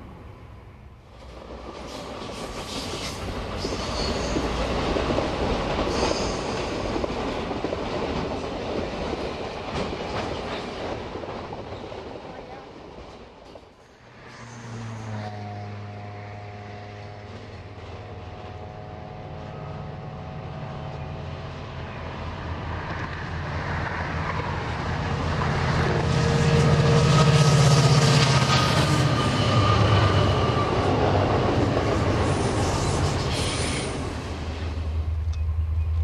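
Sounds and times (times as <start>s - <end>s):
diesel locomotive engine: 0.0s - 36.0s
train wheels on rails: 1.0s - 15.5s, 16.8s - 36.0s.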